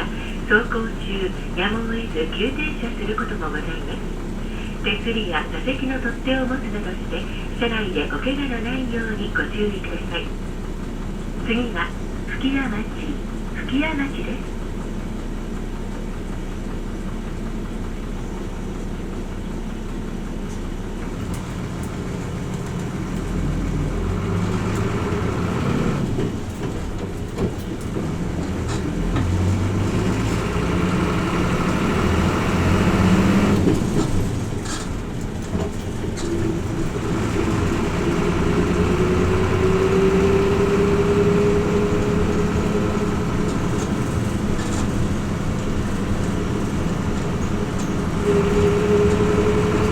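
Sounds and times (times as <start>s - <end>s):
bus engine accelerating: 0.0s - 49.9s.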